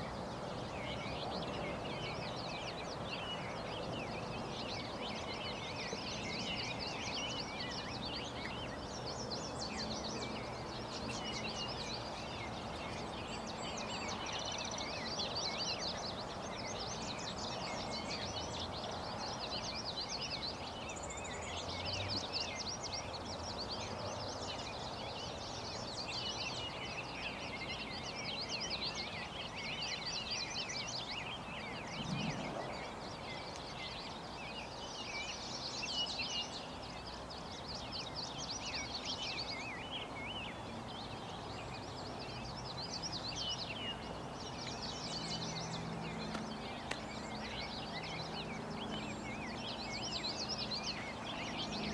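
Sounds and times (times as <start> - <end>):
outdoor background hiss: 0.0 - 51.9
songbirds chirping and trilling: 0.0 - 51.9.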